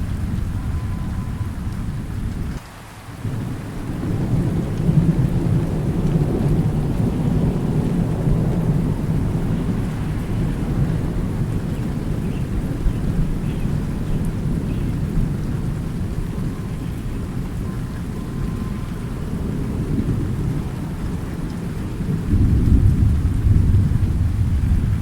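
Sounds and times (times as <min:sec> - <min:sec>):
rolling thunder: 0:00.0 - 0:02.6, 0:03.2 - 0:25.0
steady rain: 0:00.0 - 0:25.0.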